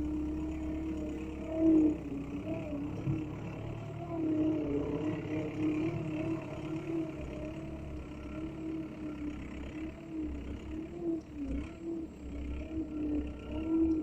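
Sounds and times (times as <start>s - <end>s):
small motor whining: 0.0s - 14.0s.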